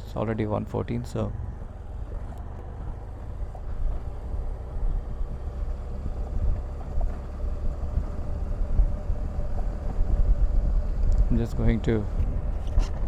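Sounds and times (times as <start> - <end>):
motorcycle engine running: 1.4 - 13.0.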